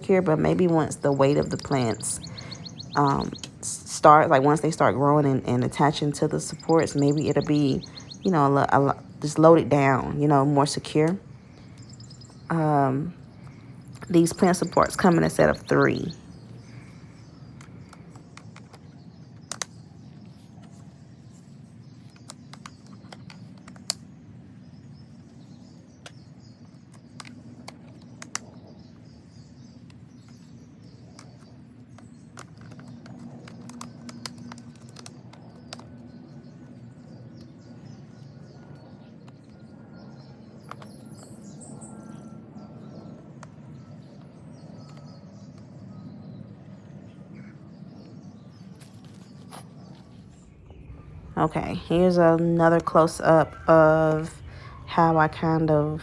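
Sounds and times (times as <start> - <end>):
birds chirping: 0.0 - 56.0
low steady hum: 0.0 - 56.0.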